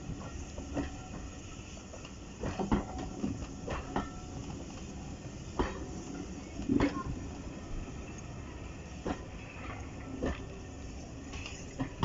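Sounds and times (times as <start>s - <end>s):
train coaches rumbling: 0.0s - 12.0s
wheels clicking over rail joints: 0.0s - 12.0s.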